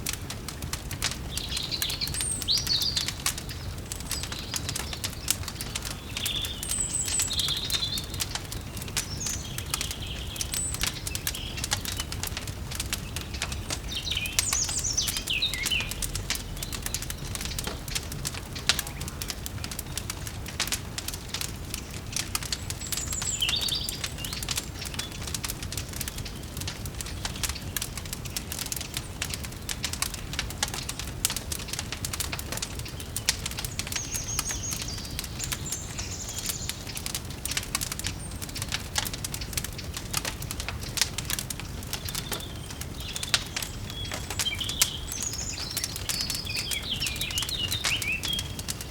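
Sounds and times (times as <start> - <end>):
wood fire crackling and popping: 0.0 - 48.9
small birds chirping: 0.1 - 48.9.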